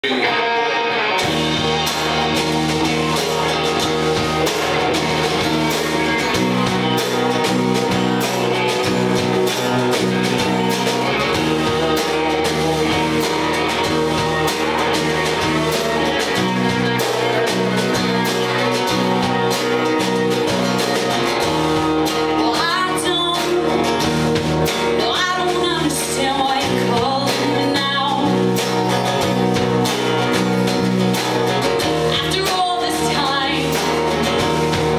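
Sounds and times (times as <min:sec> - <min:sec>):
live band playing rock song: 0:00.0 - 0:34.9.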